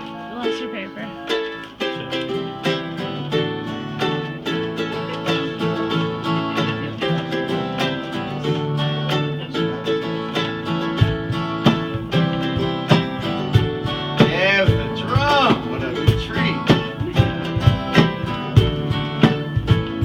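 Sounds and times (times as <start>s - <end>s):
strummed acoustic guitar: 0.0s - 20.0s
drum thuds: 1.8s - 20.0s
bass line: 2.0s - 20.0s.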